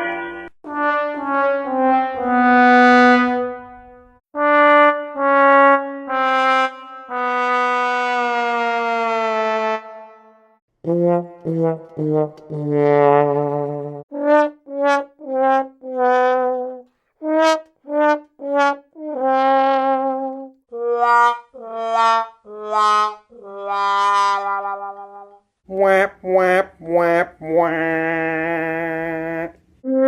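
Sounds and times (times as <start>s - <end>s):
sad trombone sound effect: 0.0s - 25.4s, 26.4s - 30.0s.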